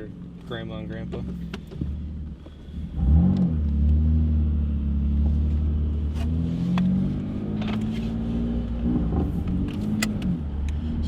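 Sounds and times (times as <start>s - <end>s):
car exhaust droning: 0.0s - 11.0s.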